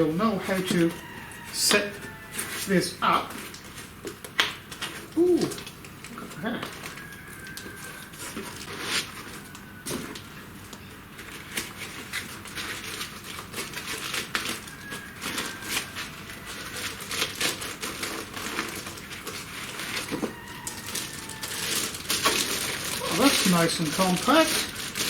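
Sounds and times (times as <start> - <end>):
plastic crinkling and rustling: 0.0 - 2.7, 3.3 - 25.0.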